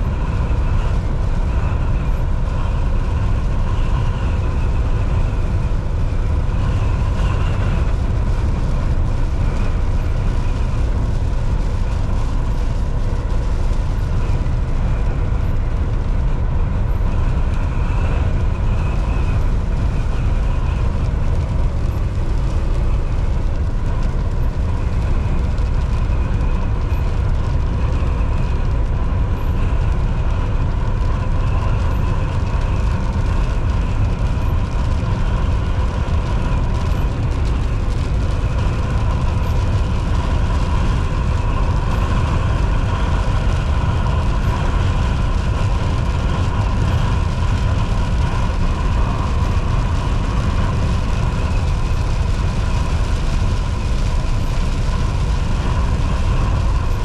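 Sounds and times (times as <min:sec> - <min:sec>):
faint whine: 0:00.0 - 0:57.0
road noise: 0:00.0 - 0:57.0
truck engine drone: 0:00.0 - 0:57.0.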